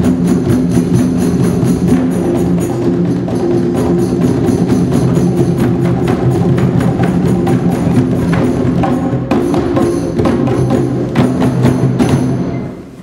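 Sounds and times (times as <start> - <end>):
hand drums playing fast rhythm: 0.0 - 12.6
sticks beating a drum: 0.0 - 12.6.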